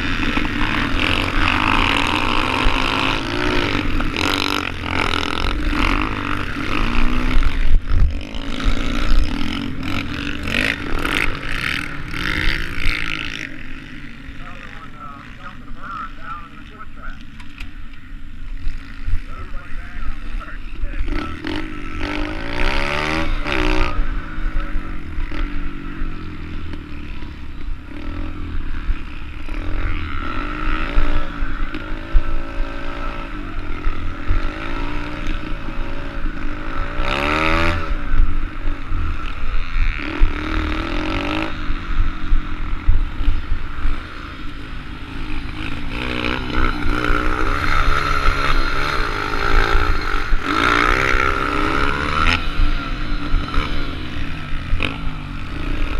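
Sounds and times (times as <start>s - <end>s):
pit bike engines revving: 0.0s - 55.9s.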